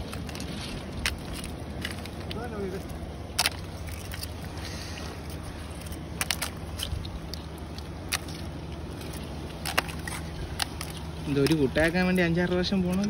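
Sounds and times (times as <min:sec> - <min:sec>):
mussel shells clicking: 0:00.0 - 0:04.6, 0:05.2 - 0:13.0
steady low drone: 0:00.0 - 0:13.0.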